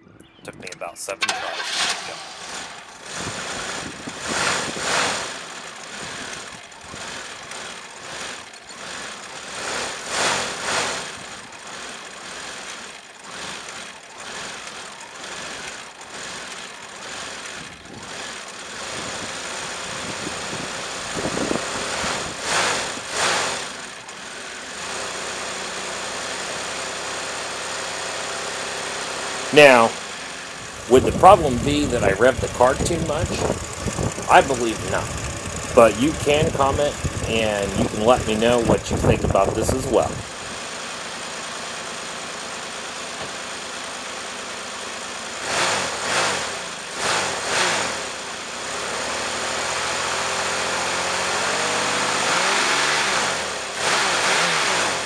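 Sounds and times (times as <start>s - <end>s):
car engine running rough: 0.0s - 55.0s
engine revving: 0.5s - 40.6s, 45.4s - 55.0s.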